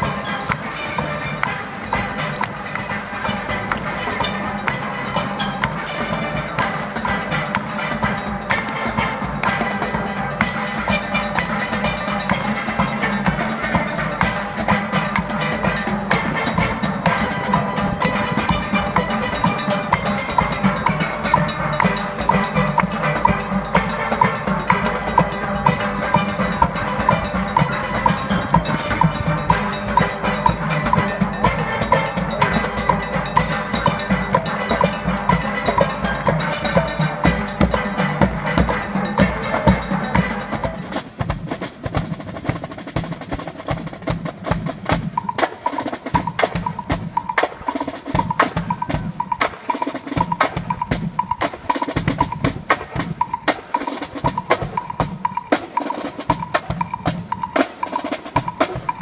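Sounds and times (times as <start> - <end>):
military band playing a march: 0.0 - 59.0
steady drum beat: 0.0 - 59.0.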